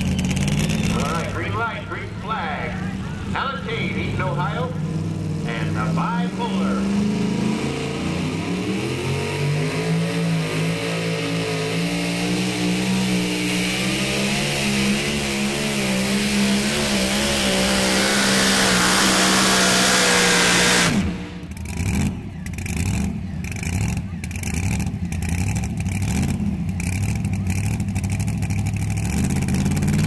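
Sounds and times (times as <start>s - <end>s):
engine at full throttle: 0.0s - 30.0s.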